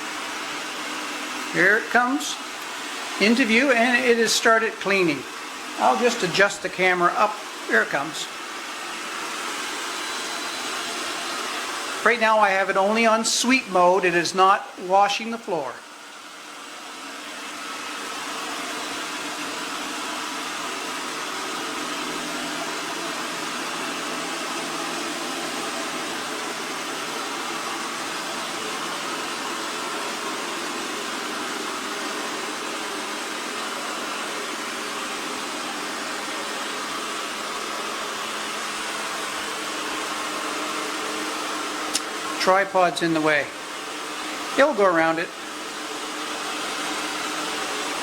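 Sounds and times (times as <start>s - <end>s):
robot vacuum fan whirring: 0.0s - 48.0s.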